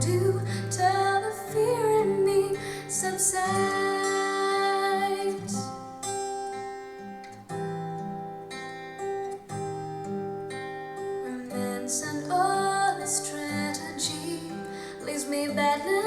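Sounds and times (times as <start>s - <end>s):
plucked acoustic guitar: 0.0s - 16.0s.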